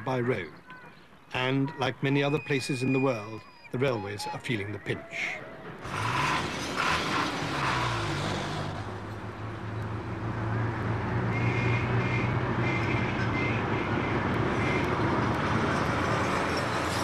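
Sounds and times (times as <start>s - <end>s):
lorries driving past: 0.0s - 17.0s
road noise: 0.0s - 17.0s.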